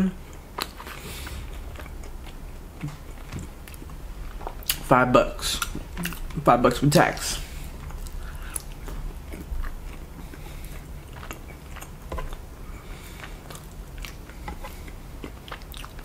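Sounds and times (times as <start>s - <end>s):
chewing and biting chicken: 0.2s - 6.5s, 7.2s - 16.0s.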